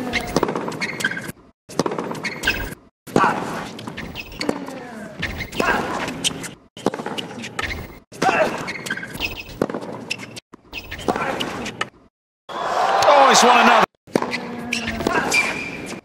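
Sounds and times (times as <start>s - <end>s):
shoes squeaking on court: 0.0s - 12.1s, 14.1s - 16.0s.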